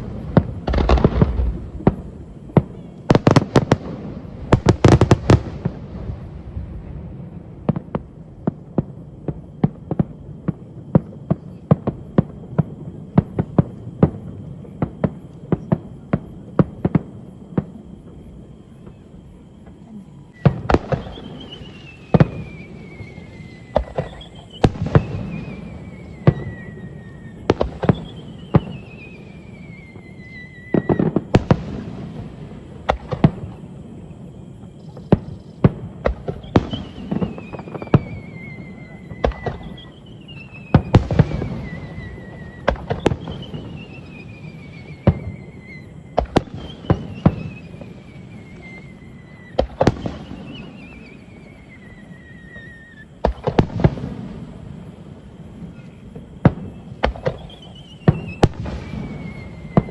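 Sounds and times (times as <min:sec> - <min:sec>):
falling firework whistles: 0:00.0 - 0:59.9
fireworks bursting bangs: 0:00.0 - 0:59.9.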